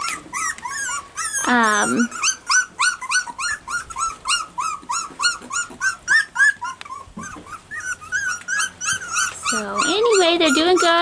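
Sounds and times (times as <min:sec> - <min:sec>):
puppy whining: 0:00.0 - 0:11.0.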